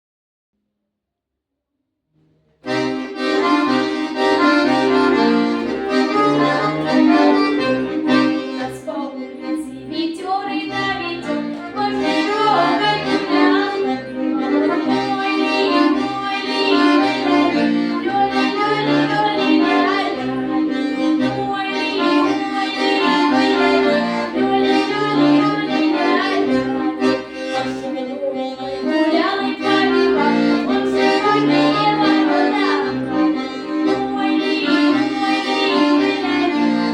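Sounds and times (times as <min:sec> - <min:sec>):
accordion folk song: 0:02.6 - 0:36.9.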